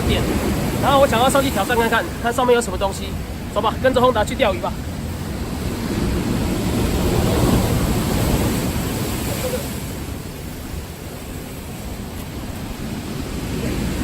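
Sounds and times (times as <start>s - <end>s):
surf on rocky shore: 0.0s - 14.0s.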